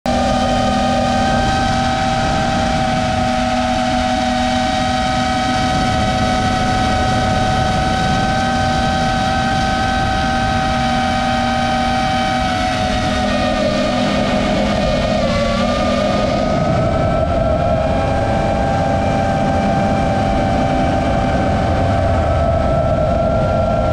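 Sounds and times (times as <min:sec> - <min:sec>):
drone propellers whining: 0:00.1 - 0:23.9
wind rushing over microphone: 0:00.1 - 0:23.9.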